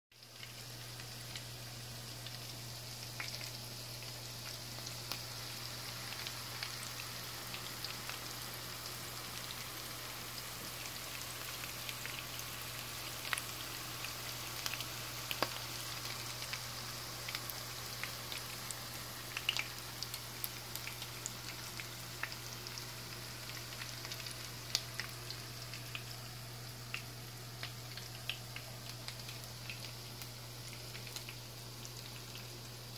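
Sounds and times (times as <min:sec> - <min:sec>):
food sizzling in hot oil: 0:00.2 - 0:32.9.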